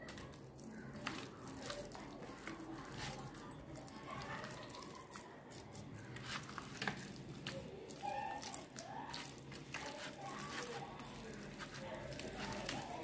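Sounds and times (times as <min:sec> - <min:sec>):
hand squelching fish in paste: 0:00.0 - 0:13.0.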